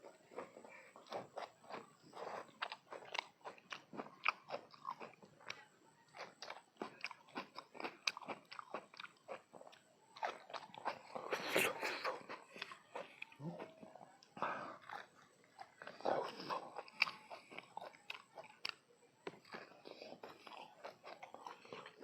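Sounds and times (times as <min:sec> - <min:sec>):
chewing and crunching food: 0:00.0 - 0:22.0.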